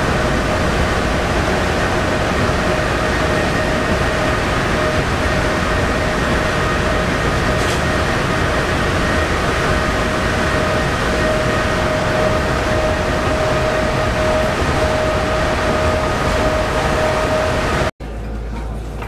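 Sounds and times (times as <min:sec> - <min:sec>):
constant hum: 0:00.0 - 0:19.0
train wheels rumbling on rails: 0:00.0 - 0:19.0.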